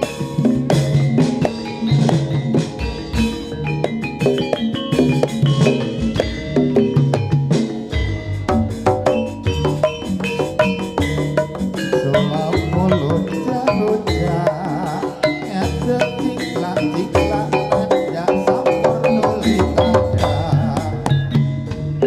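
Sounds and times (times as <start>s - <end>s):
gamelan ensemble: 0.0s - 22.0s
hand drums beating: 0.0s - 22.0s
struck metallophone notes: 0.0s - 22.0s.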